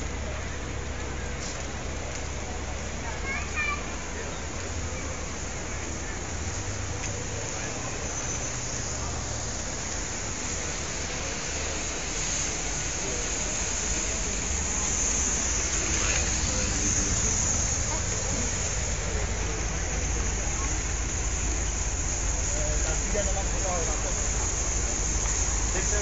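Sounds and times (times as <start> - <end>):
low engine rumble: 0.0 - 26.0
traffic hiss: 0.0 - 26.0.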